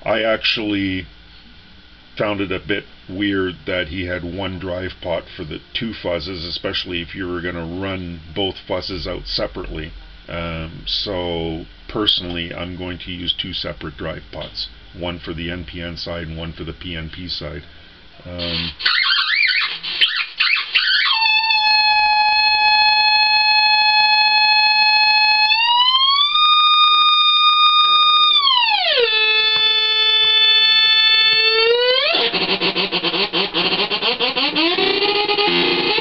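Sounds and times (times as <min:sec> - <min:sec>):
buzzy fuzz oscillation tone: 0:02.1 - 0:36.0.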